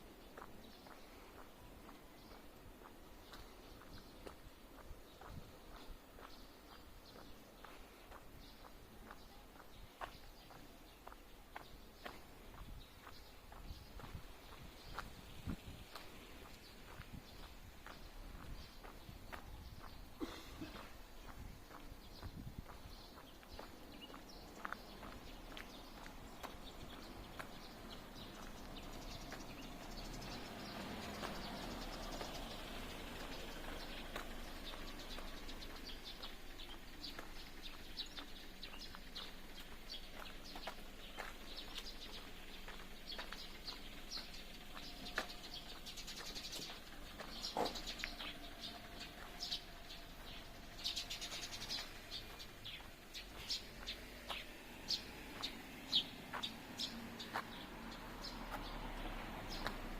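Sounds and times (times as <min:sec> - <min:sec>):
faint background noise: 0:00.0 - 0:59.9
small birds chirping: 0:00.0 - 0:59.9.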